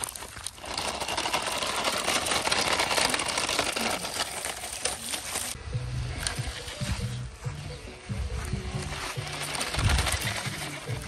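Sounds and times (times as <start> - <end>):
leaves and gravel crackling: 0.0 - 11.0
toy car motor whirring: 0.0 - 11.0.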